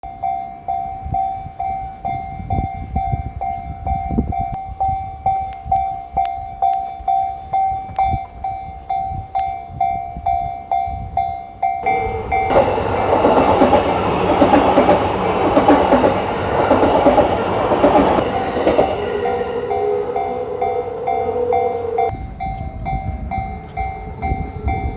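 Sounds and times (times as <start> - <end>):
level-crossing alarm dinging: 0.0 - 24.9
train wheels rumbling on rails: 0.1 - 24.9.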